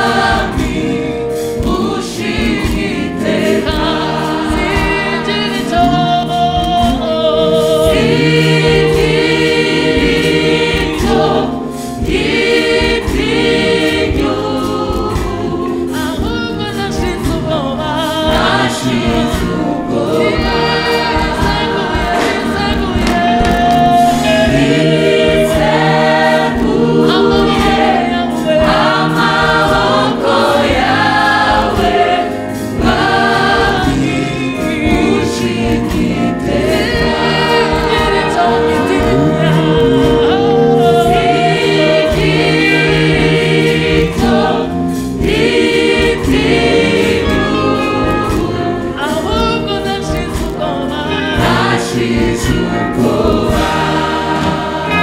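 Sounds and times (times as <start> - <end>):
choir singing gospel: 0.0 - 55.0
musical accompaniment: 0.0 - 55.0.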